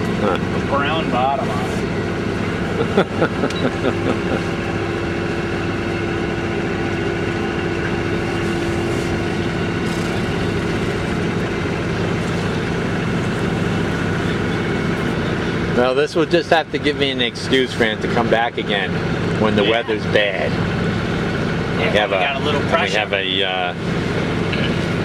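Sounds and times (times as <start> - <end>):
boat engine humming: 0.0 - 23.2.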